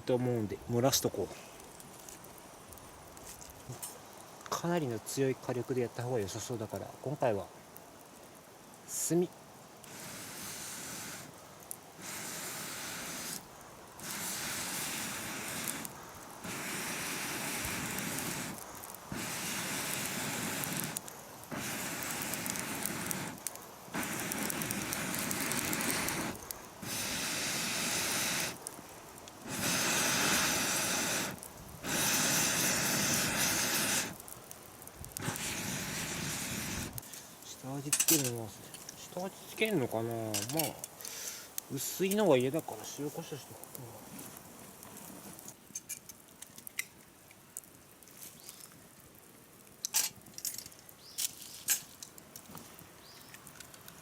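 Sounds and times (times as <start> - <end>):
air blown on fire hissing: 0.0 - 45.7.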